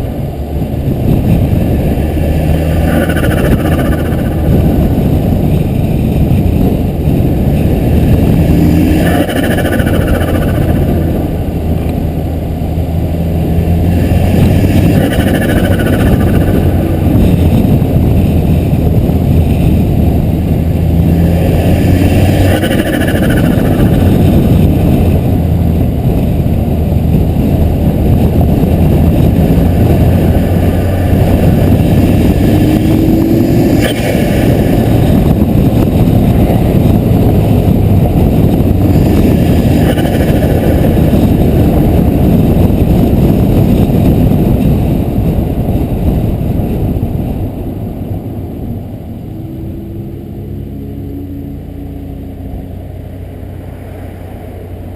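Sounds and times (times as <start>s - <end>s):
car engine running: 0.0s - 54.9s
turbo fluttering: 0.6s - 50.4s.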